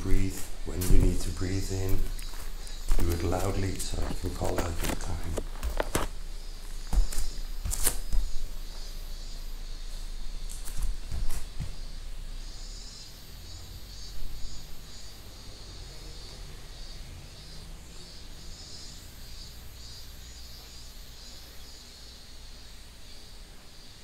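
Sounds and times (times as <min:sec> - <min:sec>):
insects chirring in pulsing chorus: 0:00.0 - 0:24.0.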